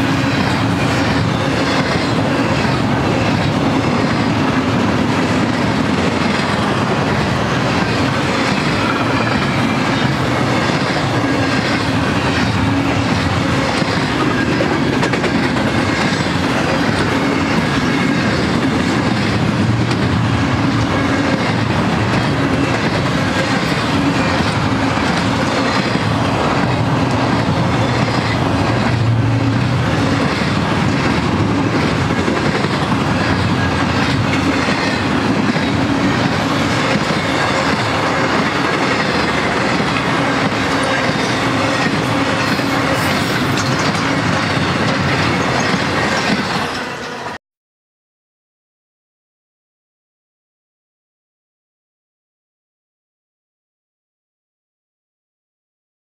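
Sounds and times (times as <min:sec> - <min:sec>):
steel wheels rumbling on rail: 0:00.0 - 0:47.4.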